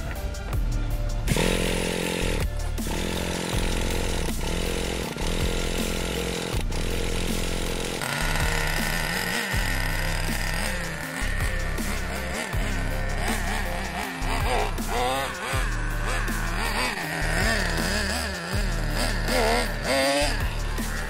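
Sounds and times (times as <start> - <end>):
electric starter buzzing: 1.2 - 21.0.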